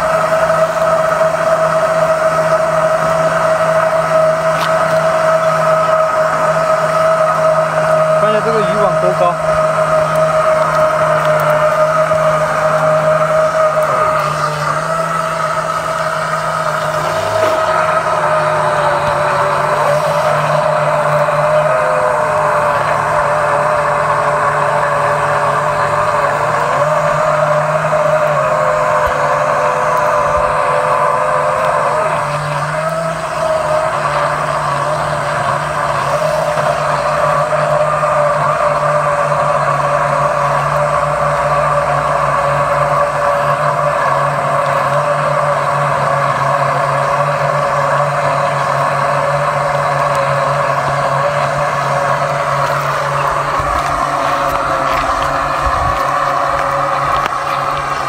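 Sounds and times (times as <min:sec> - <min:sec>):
engine droning hum: 0:00.0 - 0:58.0.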